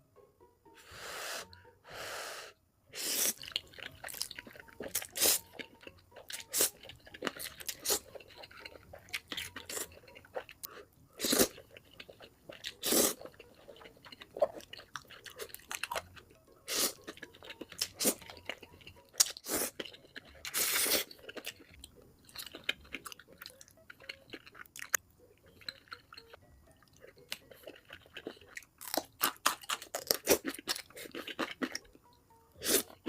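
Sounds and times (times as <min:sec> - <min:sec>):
wet chewing and crunching: 0:03.2 - 0:33.0.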